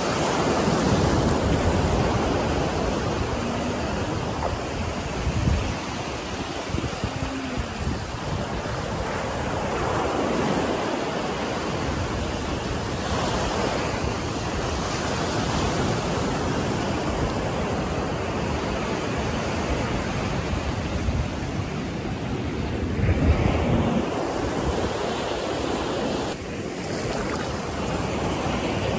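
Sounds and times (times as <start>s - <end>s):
ocean surf breaking: 0.0s - 28.9s.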